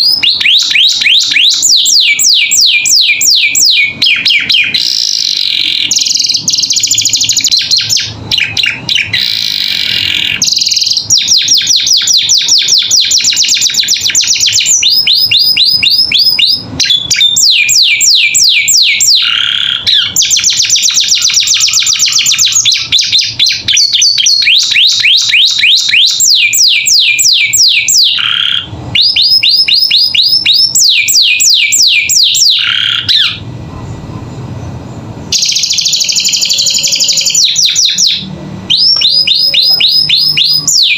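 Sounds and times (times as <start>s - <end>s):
canary singing trills: 0.0s - 33.5s, 34.6s - 40.9s.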